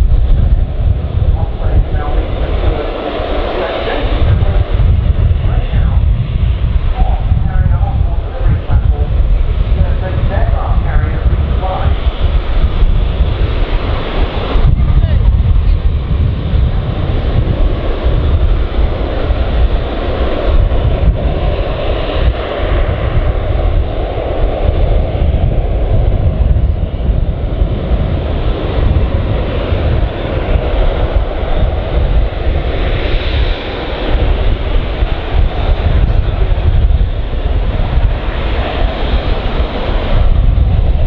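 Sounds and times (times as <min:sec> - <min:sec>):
aircraft rotor and turbine noise: 0:00.0 - 0:41.0
wind on microphone: 0:00.0 - 0:41.0.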